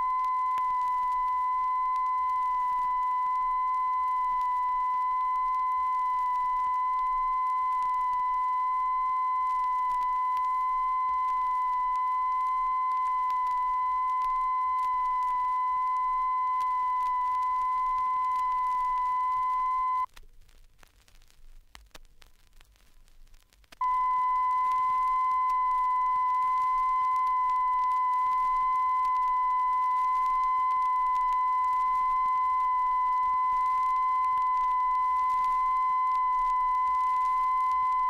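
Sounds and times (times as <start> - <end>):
steady test tone: 0.0 - 20.1, 23.8 - 38.0
record crackle clicks: 0.0 - 38.0
record surface hiss: 0.0 - 38.0.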